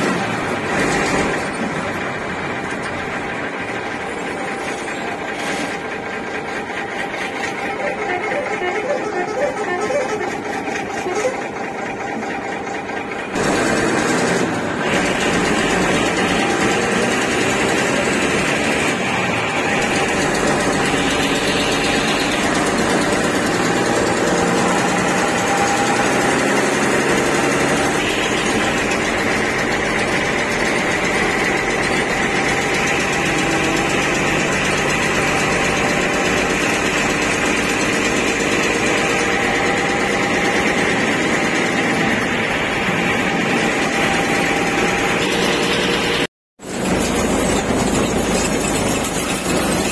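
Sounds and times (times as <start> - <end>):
bus engine running: 0.0 - 49.9
road noise: 0.0 - 49.9.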